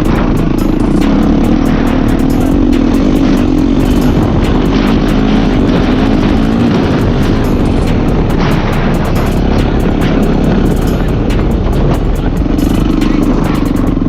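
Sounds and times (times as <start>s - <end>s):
motocross engine running: 0.0s - 14.0s.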